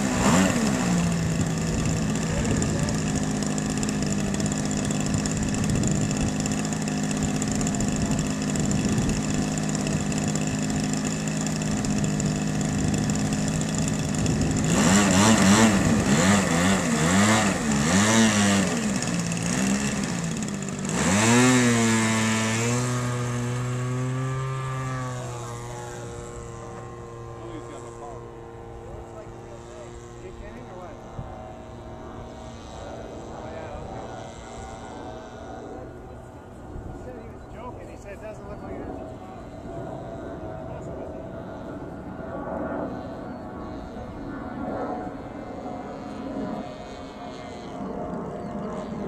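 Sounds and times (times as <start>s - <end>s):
model plane engine and propeller: 0.0s - 49.0s.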